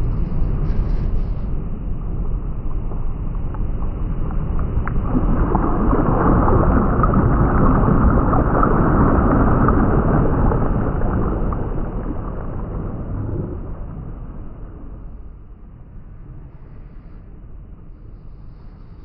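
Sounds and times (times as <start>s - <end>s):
loud rumbling with crackling: 0.0s - 19.0s.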